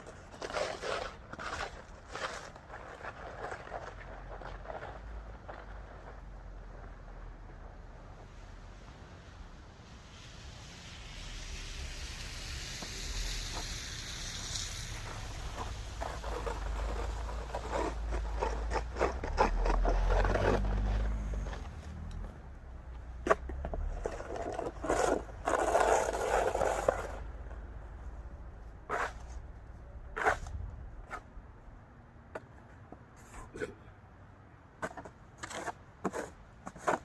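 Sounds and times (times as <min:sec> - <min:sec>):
scraping and crunching in snow: 0:00.0 - 0:08.8, 0:10.0 - 0:22.5, 0:23.1 - 0:28.1, 0:28.8 - 0:29.5, 0:30.1 - 0:31.2, 0:34.8 - 0:37.0.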